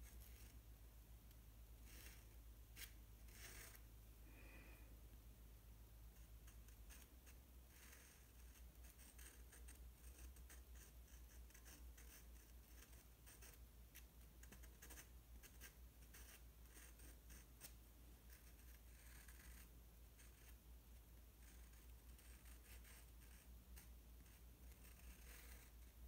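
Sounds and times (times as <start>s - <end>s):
low steady hum: 0.0s - 26.0s
pen scratching on paper: 1.8s - 3.8s, 6.2s - 20.6s, 21.4s - 25.9s.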